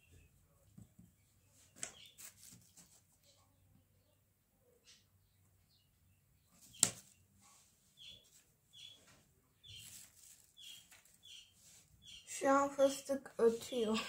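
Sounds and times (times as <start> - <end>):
pet bird chirping: 1.2 - 12.5.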